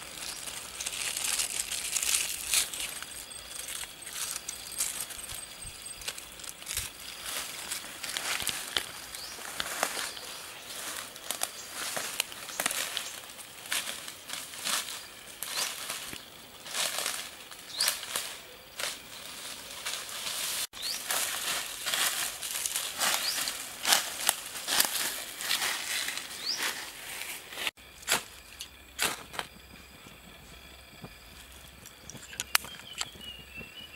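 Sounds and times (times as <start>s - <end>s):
footsteps through dry leaves: 0.0s - 31.9s.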